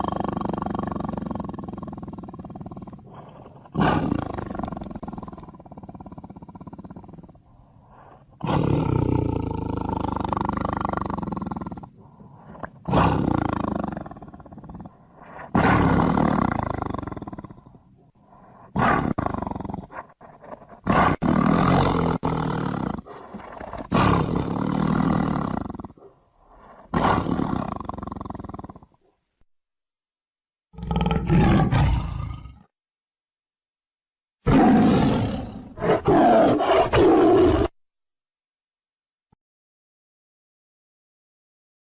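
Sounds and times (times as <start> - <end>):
tiger roaring: 0.0 - 28.9, 30.7 - 32.7, 34.4 - 37.8.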